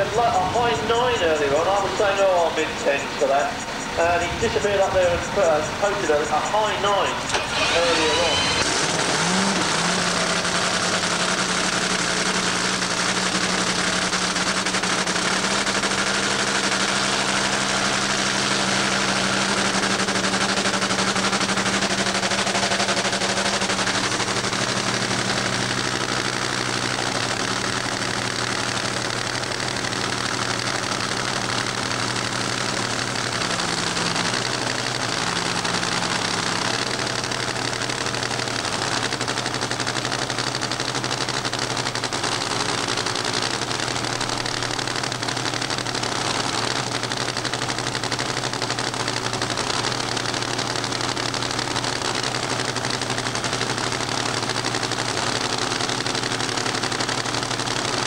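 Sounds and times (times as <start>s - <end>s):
supercharged engine idling: 0.0s - 58.0s.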